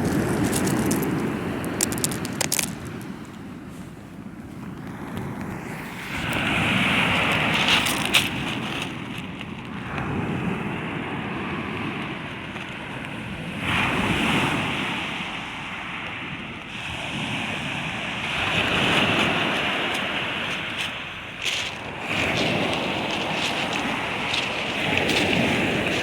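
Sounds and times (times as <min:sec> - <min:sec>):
waves breaking on stony beach: 0:00.0 - 0:26.0
wind buffeting microphone: 0:00.0 - 0:26.0.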